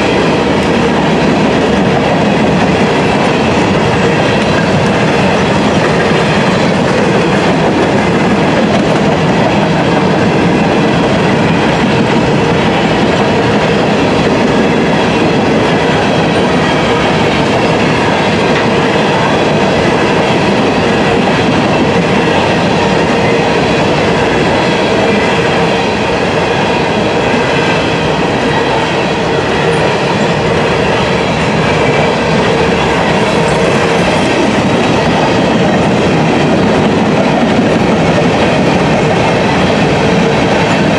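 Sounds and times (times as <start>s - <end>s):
freight train wheels clattering on rails: 0.0s - 40.9s.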